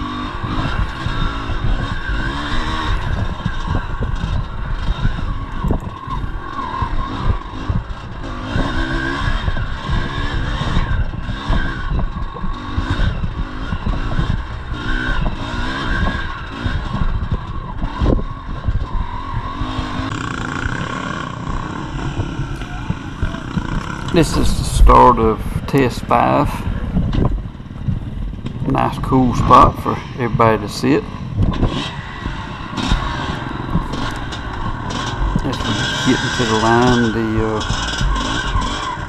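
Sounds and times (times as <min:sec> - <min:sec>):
motorcycle rattling over rough ground: 0:00.0 - 0:39.0
two-stroke motorcycle engine revving: 0:00.0 - 0:39.0.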